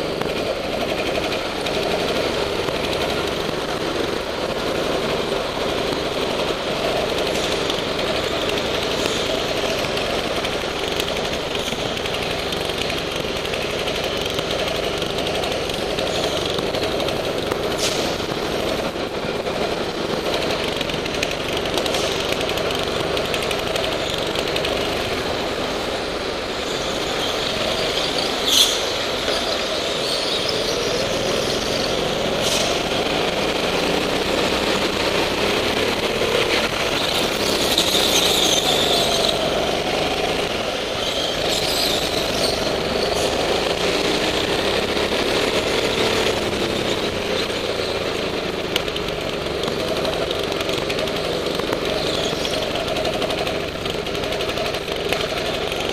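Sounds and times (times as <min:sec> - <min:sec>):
go-kart engine running hard: 0:00.0 - 0:55.9
steady rushing noise: 0:00.0 - 0:55.9.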